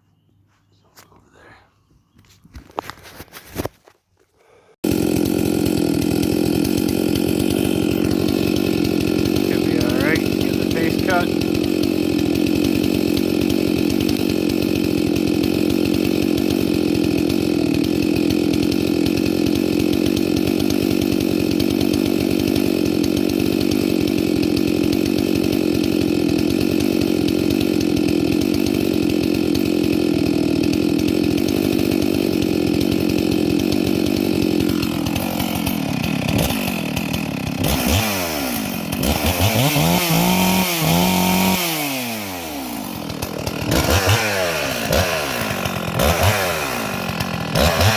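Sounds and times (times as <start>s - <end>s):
chainsaw revving: 4.8s - 47.9s.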